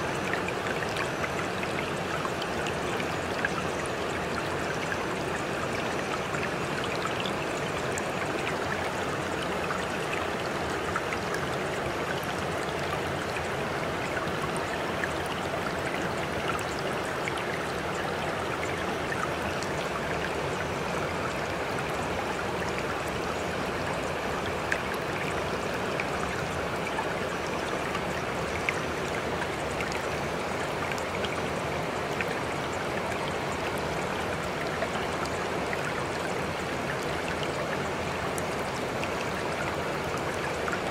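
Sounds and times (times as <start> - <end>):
faint drip-like clicks: 0.0 - 40.9
running water rushing: 0.0 - 40.9.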